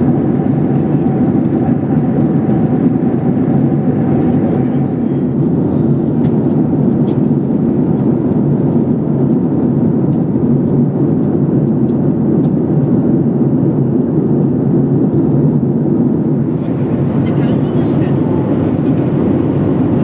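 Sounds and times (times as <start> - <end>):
jet engines rumbling in cabin: 0.0 - 20.0.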